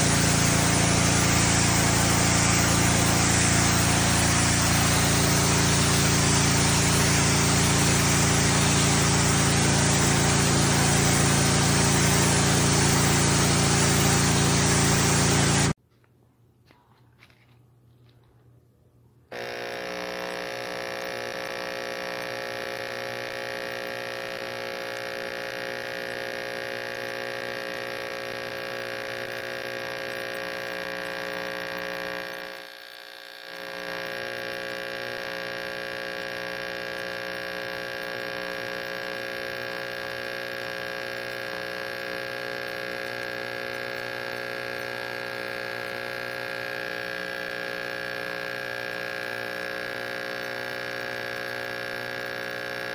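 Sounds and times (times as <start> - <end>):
pressure washer running: 0.0 - 15.8, 19.3 - 52.9.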